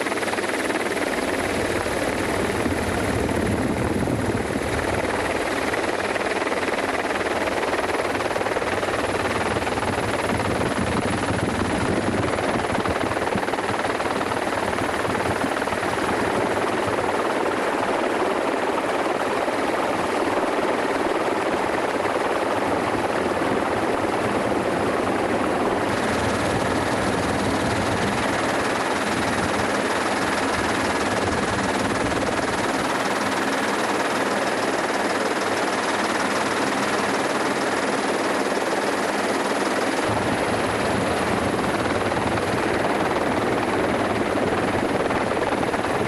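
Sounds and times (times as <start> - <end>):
helicopter rotor chopping: 0.0 - 46.0.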